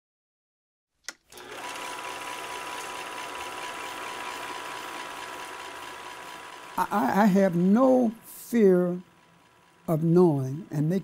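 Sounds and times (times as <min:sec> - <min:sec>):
small machine clattering: 0:01.3 - 0:11.0.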